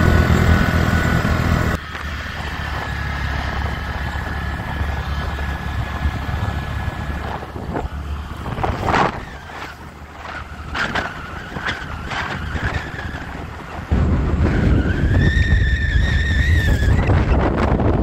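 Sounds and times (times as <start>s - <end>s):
scooter road and engine noise: 0.0s - 18.0s
wind buffeting microphone: 0.0s - 18.0s.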